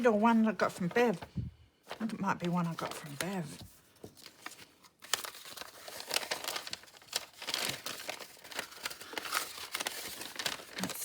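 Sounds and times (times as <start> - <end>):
paper crinkling and rustling: 0.1 - 11.0.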